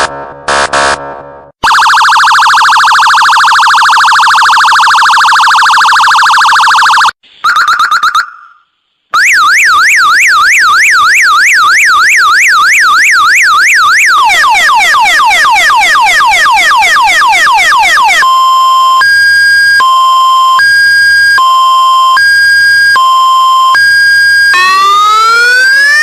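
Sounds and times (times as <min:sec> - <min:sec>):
siren pulses: 0:00.0 - 0:26.0
electronic siren warble: 0:01.6 - 0:08.6, 0:09.2 - 0:26.0
siren yelp: 0:01.6 - 0:26.0.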